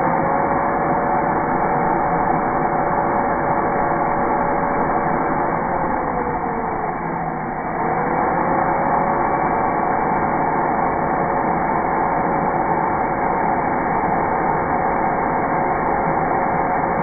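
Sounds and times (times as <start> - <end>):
power drill motor whine: 0.0 - 17.0.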